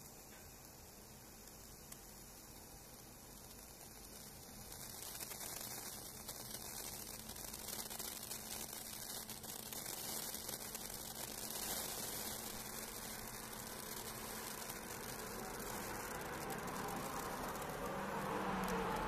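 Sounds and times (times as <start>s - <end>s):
sparkler crackling hiss: 0.0s - 19.0s.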